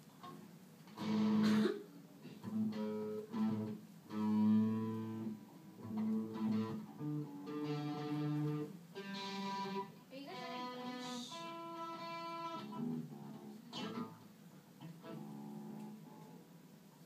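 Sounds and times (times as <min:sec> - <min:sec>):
electric guitar single notes: 0:00.2 - 0:01.7, 0:02.3 - 0:16.4.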